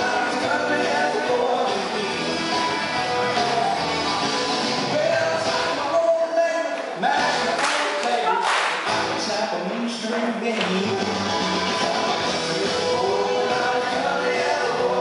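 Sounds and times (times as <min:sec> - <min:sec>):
bass: 0:00.0 - 0:15.0
country song with singing: 0:00.0 - 0:15.0.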